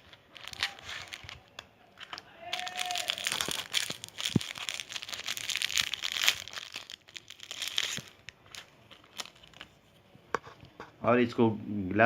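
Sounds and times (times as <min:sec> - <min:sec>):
packet crinkling and rustling: 0:00.0 - 0:09.8.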